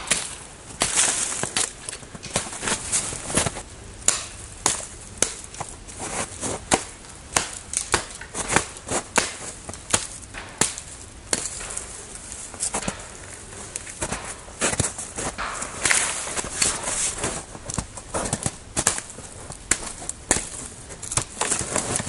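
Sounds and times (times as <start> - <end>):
hatchet chopping wood: 0.0 - 2.8, 3.4 - 5.7, 6.6 - 22.0.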